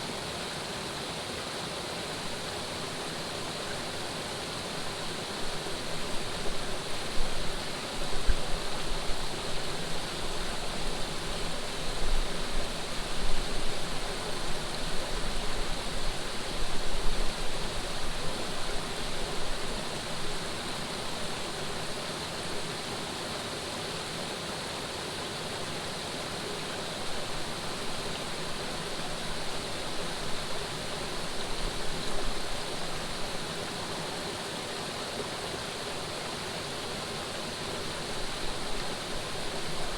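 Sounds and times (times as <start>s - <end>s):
running water flowing: 2.1s - 39.9s.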